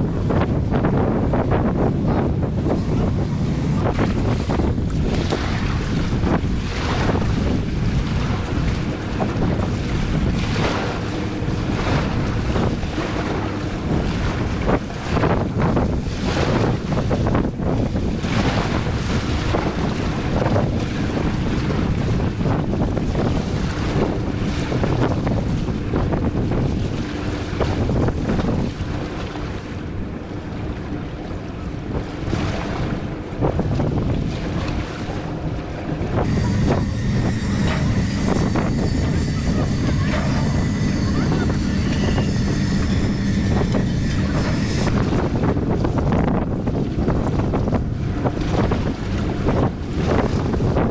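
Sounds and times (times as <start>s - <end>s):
low engine hum: 0.0s - 50.9s
sea water washing: 0.0s - 50.9s
wind buffeting microphone: 0.0s - 50.9s.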